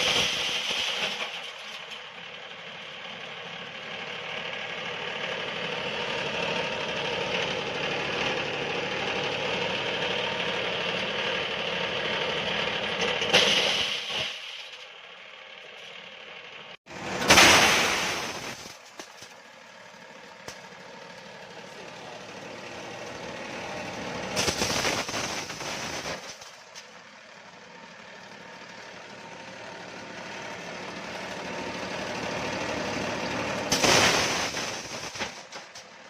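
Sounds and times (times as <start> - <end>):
corn sheller running: 0.0 - 15.0, 15.6 - 36.0.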